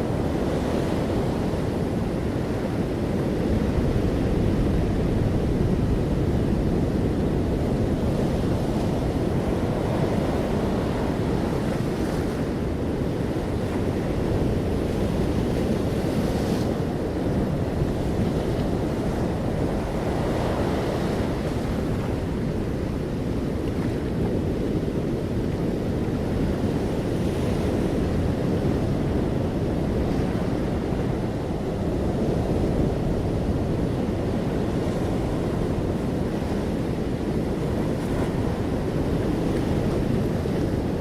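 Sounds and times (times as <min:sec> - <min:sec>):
ocean waves breaking: 0:00.0 - 0:41.0.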